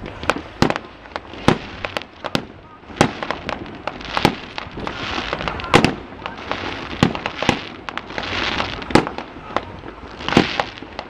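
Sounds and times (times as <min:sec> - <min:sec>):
firework bangs: 0:00.0 - 0:11.0
firework crackling: 0:00.0 - 0:11.0
firework pops: 0:00.0 - 0:11.0.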